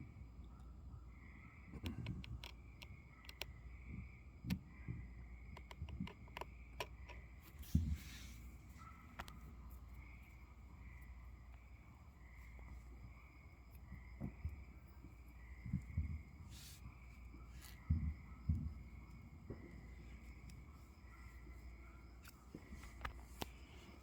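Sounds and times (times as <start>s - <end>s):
night insects chirping: 0.0s - 24.0s.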